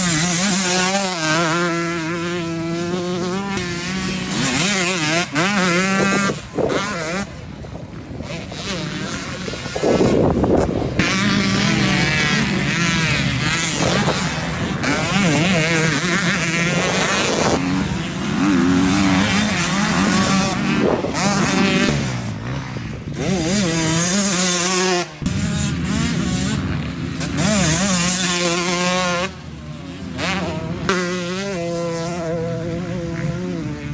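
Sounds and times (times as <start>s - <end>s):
motocross bike engines revving: 0.0s - 33.9s.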